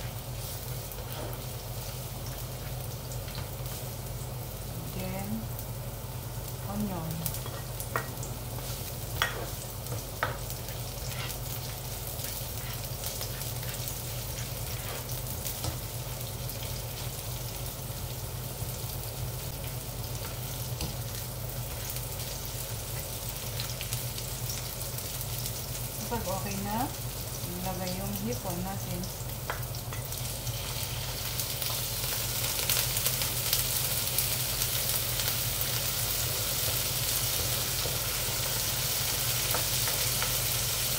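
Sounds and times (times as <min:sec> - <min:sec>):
vegetables sizzling in hot oil: 0:00.0 - 0:40.9.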